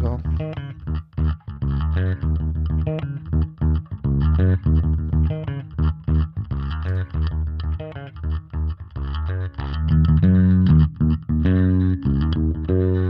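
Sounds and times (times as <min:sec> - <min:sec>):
electric bass guitar: 0:00.0 - 0:13.0.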